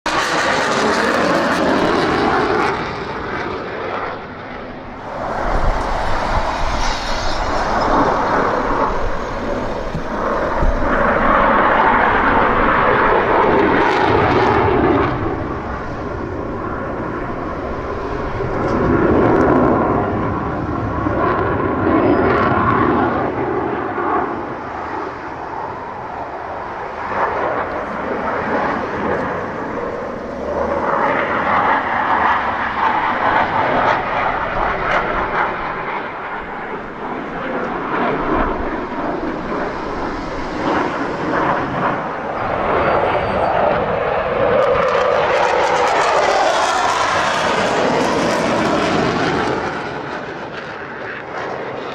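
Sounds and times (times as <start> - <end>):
fighter jet roaring overhead: 0.1 - 51.9.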